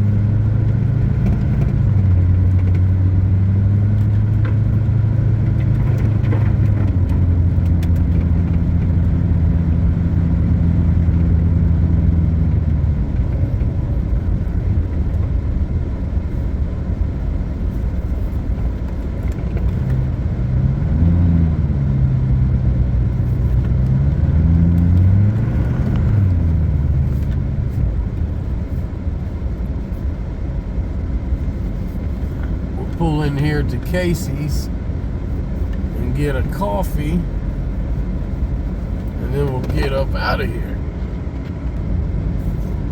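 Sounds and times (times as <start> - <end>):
road noise: 0.0 - 42.9
vehicle engine humming: 0.0 - 42.9.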